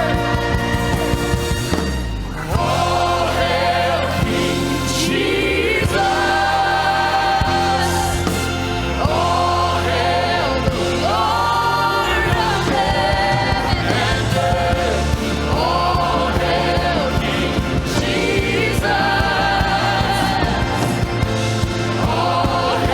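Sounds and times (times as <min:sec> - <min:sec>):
voices singing together: 0:00.0 - 0:22.9.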